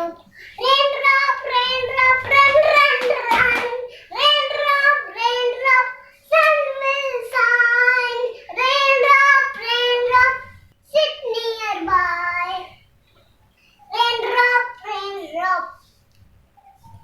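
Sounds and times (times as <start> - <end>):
child singing unaccompanied: 0.0 - 12.9, 13.9 - 15.8.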